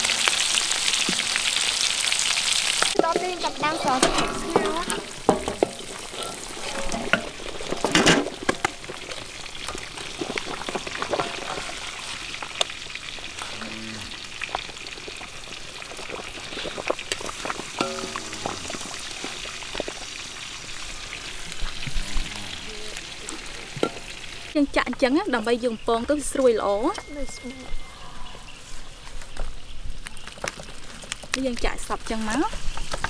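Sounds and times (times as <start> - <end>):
water boiling in a wok: 0.0 - 27.3, 28.5 - 33.0.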